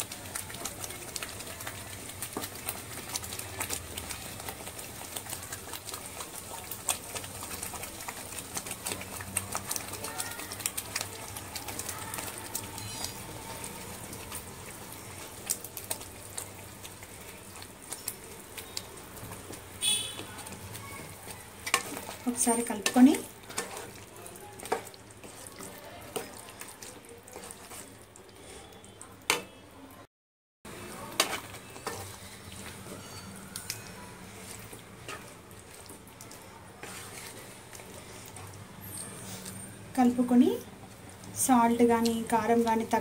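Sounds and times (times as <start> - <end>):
gravy sizzling in oil: 0.0 - 30.0, 30.7 - 43.0.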